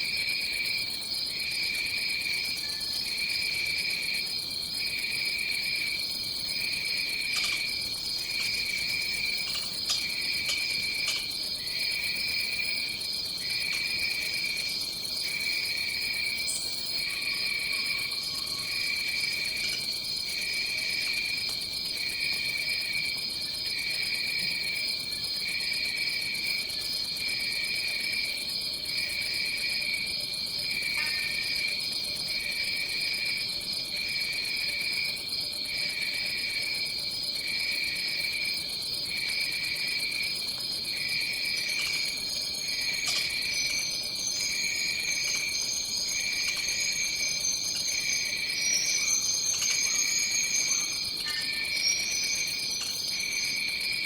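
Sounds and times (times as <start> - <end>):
hum of distant insect calls: 0.0 - 54.0
insect chirping call: 0.0 - 54.0
insects trilling: 0.0 - 54.0.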